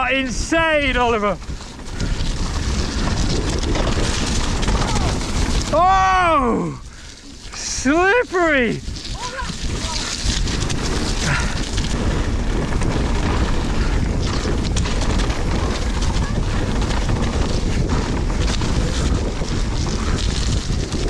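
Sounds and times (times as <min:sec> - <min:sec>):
bike tyre rumble and rattles: 0:00.0 - 0:21.0
wind on microphone: 0:00.0 - 0:21.0.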